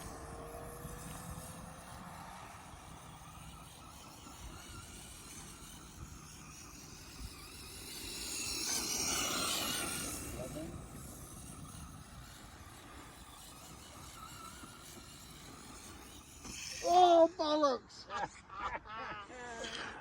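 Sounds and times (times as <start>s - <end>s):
model car motor whine: 0.0s - 17.2s.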